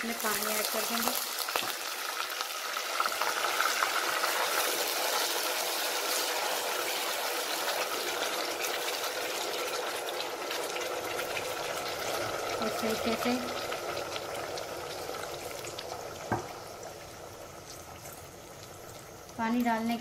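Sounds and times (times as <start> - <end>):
liquid sizzling and bubbling in pot: 0.0 - 20.0.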